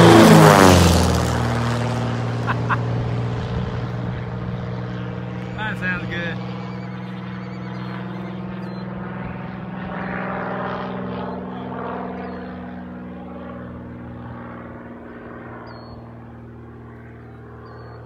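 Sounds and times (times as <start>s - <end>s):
light aircraft engine flyby: 0.0s - 18.0s.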